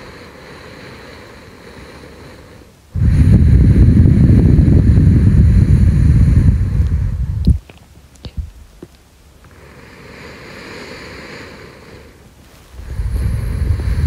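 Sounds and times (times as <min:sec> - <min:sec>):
slow breathing at microphone: 0:00.0 - 0:07.6, 0:09.5 - 0:14.0
breath blowing on microphone: 0:00.0 - 0:08.6, 0:09.5 - 0:14.0.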